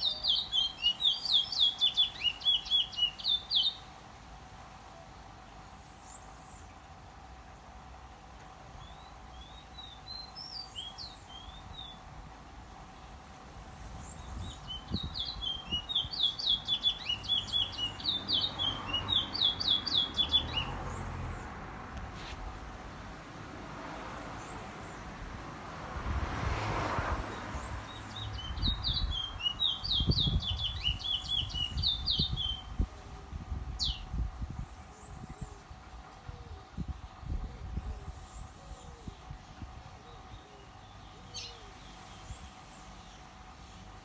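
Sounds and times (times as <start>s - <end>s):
songbird singing: 0.0s - 22.1s, 24.0s - 25.4s, 26.9s - 44.0s.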